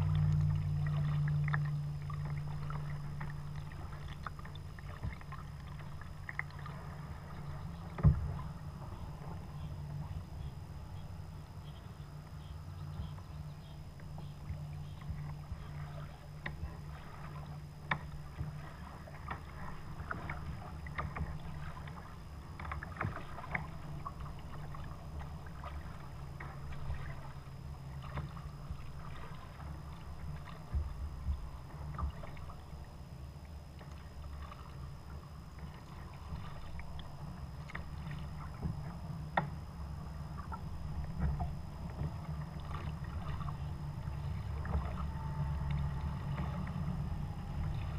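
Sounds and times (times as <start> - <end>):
small water splashes: 0.0 - 10.2, 14.0 - 34.9, 35.5 - 39.6, 40.3 - 47.9
paddle blades dipping and dripping: 0.0 - 47.9
steady low rumble: 0.0 - 47.9.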